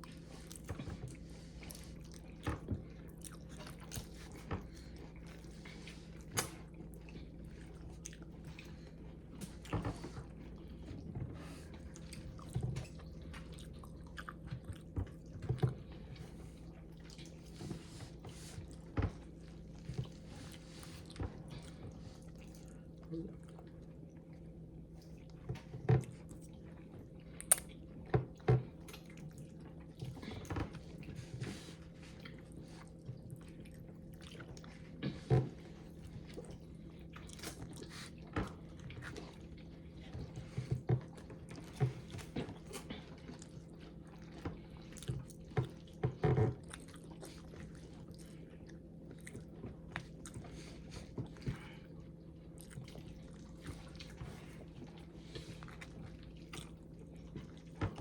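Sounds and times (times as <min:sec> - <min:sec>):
person chewing noodles: 0:00.0 - 0:58.0.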